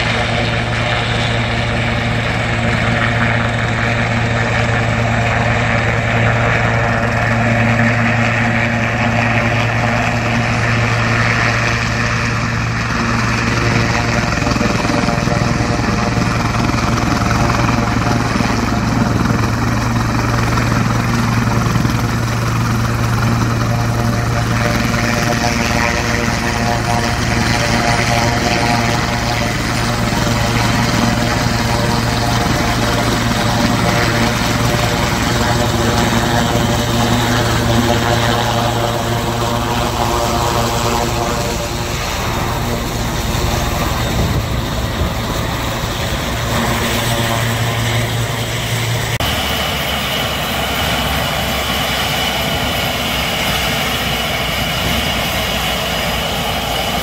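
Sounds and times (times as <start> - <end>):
helicopter rotor drone: 0.0 - 57.0
helicopter turbine whine: 0.0 - 57.0.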